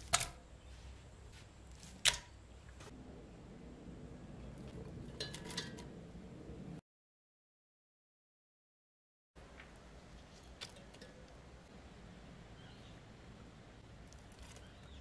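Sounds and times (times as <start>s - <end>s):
low steady hum: 0.0s - 6.8s, 9.4s - 15.0s.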